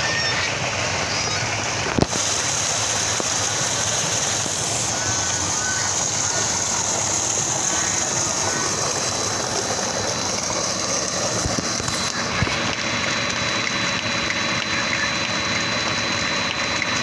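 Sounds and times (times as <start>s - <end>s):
water gushing into tank: 0.0s - 17.0s.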